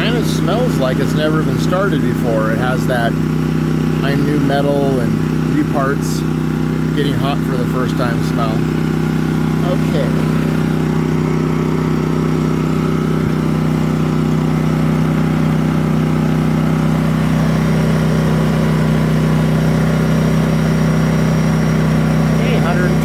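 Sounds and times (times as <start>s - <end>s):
generator engine humming: 0.0s - 23.0s.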